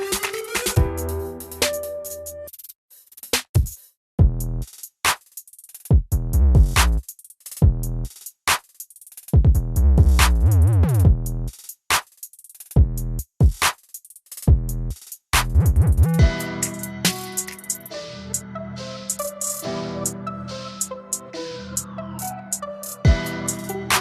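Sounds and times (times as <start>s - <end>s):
drum machine beat: 0.0s - 18.4s, 19.1s - 20.2s, 20.8s - 24.0s.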